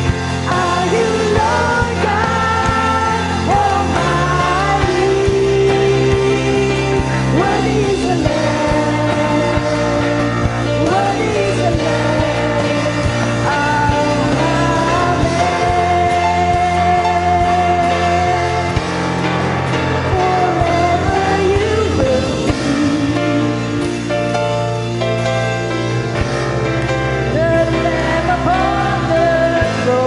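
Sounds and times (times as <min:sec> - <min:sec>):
bass notes: 0:00.0 - 0:30.0
worship song with band: 0:00.0 - 0:30.0.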